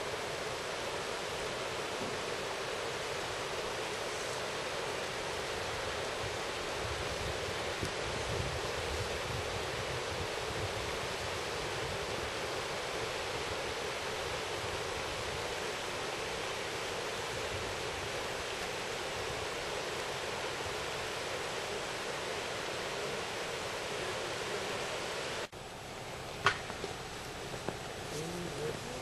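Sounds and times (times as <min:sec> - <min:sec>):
river rushing over stones: 0:00.0 - 0:29.0.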